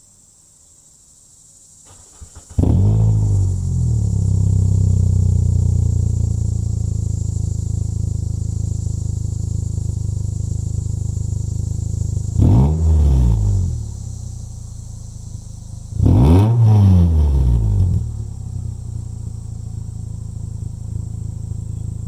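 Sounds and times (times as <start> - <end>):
car engine idling: 1.9 - 22.0
engine revving: 1.9 - 22.0.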